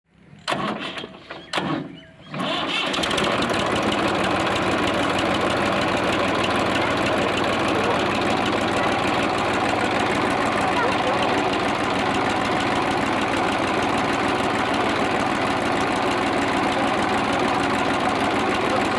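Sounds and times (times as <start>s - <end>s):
tractor engine running: 0.4s - 18.9s.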